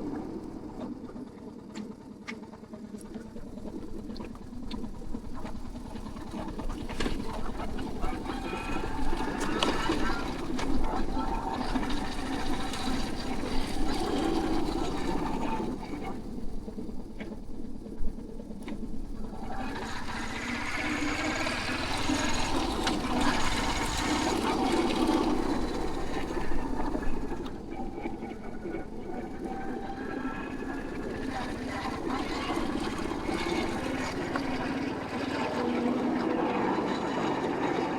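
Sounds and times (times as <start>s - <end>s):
motorcycle engine running: 3.1s - 35.9s.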